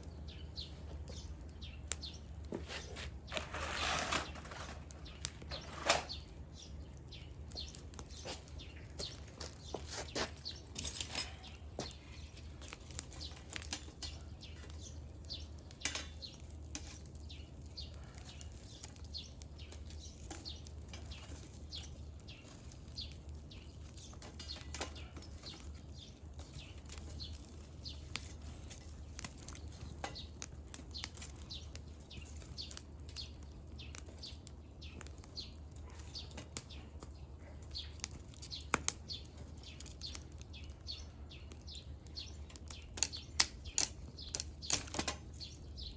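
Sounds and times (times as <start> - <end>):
firewood crackling and popping: 0.0 - 45.9.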